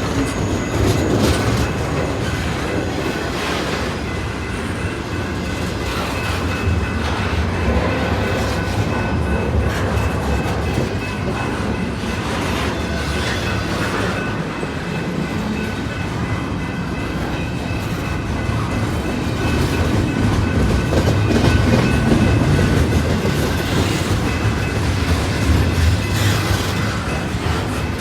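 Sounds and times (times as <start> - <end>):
freight train rolling past: 0.0 - 28.0
wheels clacking on rails: 0.0 - 28.0.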